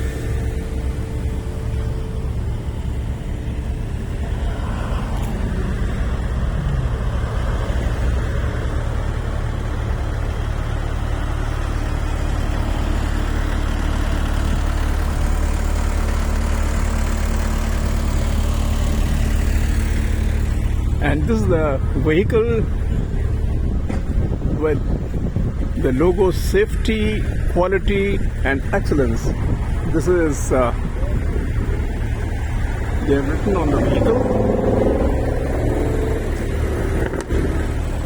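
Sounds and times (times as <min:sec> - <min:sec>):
heavy machinery engine droning: 0:00.0 - 0:38.0.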